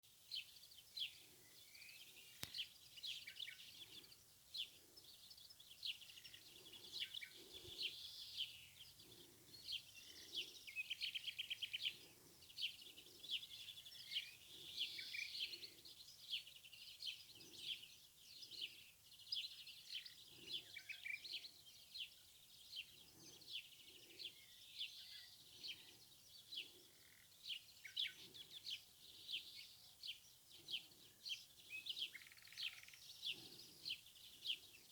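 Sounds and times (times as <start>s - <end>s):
birds chirping and singing: 0.4s - 34.9s.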